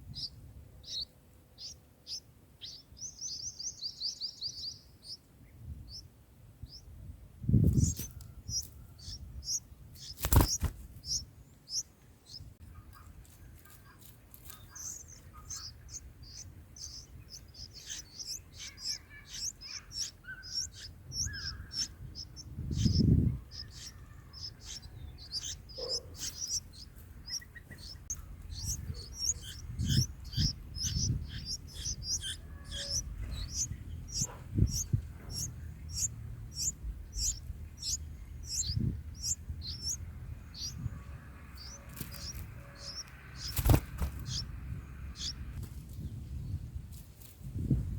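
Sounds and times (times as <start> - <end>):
chicks begging chirps: 0.0 - 5.2, 7.5 - 45.6.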